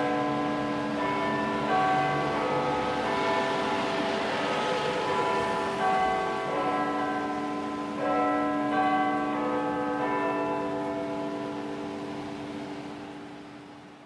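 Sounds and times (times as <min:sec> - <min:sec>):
church bells tolling: 0:00.0 - 0:13.9.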